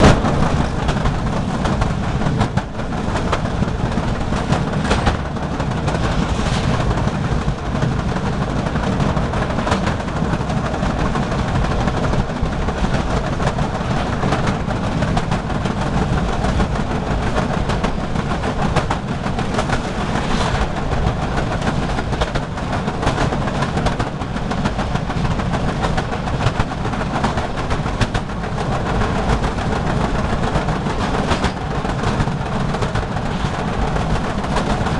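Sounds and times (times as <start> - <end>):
train rumbling: 0.0 - 34.9
wheels clattering over rail joints: 0.0 - 34.9.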